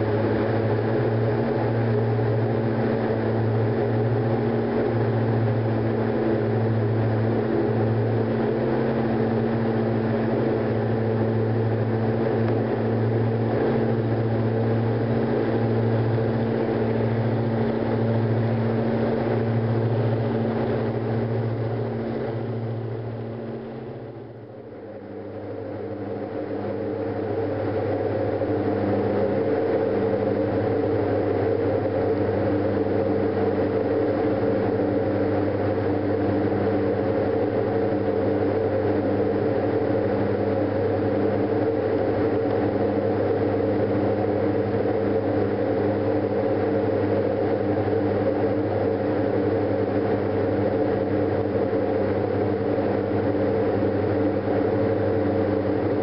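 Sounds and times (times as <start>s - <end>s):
aircraft engines droning in cabin: 0.0s - 56.0s.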